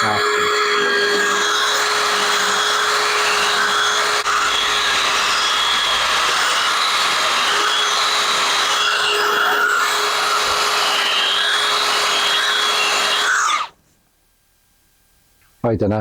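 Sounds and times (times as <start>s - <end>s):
belt sander sanding wood: 0.0s - 13.7s.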